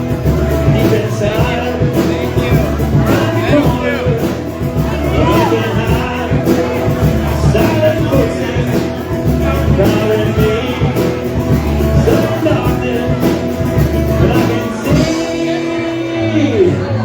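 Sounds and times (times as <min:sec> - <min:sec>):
steady drum beat: 0:00.0 - 0:16.7
live rock band playing: 0:00.0 - 0:17.0
person singing: 0:00.0 - 0:17.0.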